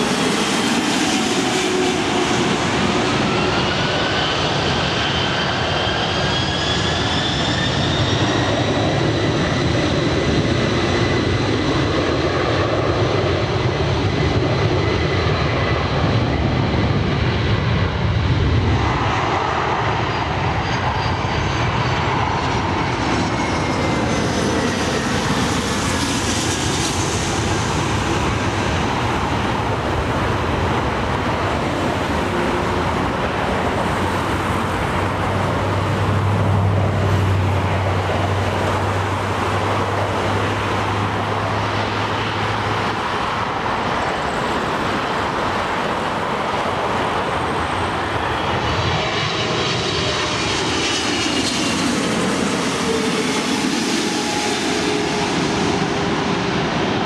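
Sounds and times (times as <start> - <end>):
airliner passing overhead: 0.0 - 57.0
jet engine rushing: 0.0 - 57.0.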